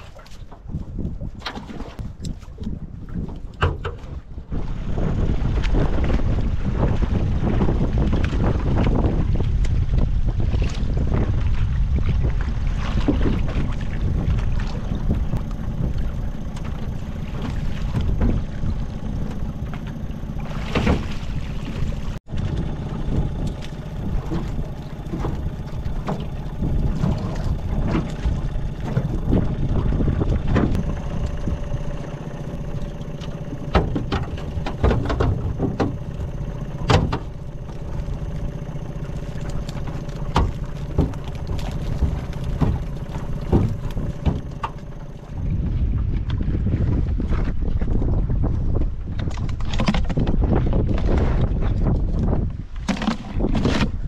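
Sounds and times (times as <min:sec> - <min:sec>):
water lapping against boat: 0:00.0 - 0:54.0
wind buffeting microphone: 0:00.0 - 0:54.0.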